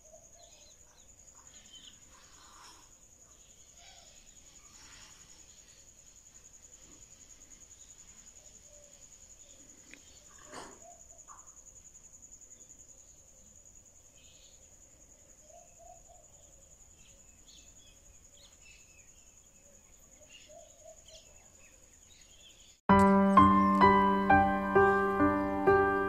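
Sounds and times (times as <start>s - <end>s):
faint bird chirps: 0.0s - 22.8s.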